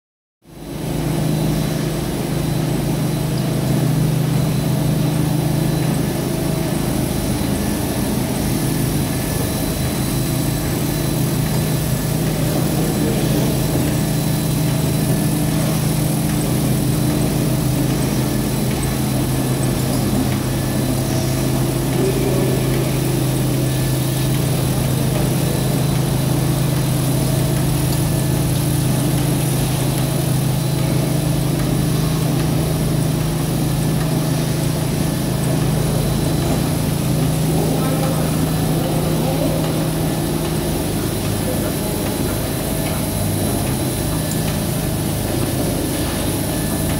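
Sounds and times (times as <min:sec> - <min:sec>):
carpet washing machine humming: 0:00.4 - 0:46.9.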